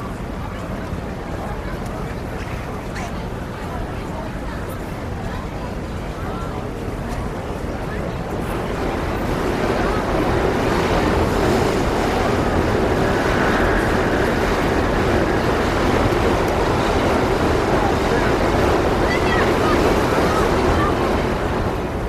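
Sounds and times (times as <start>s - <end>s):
wet street noise: 0.0s - 22.0s.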